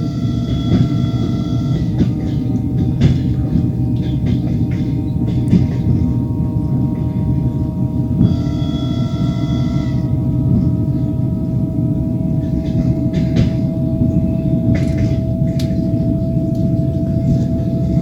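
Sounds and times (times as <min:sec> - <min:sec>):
metallic ringing tone: 0:00.0 - 0:18.0
train wheels rumbling on track: 0:00.0 - 0:18.0.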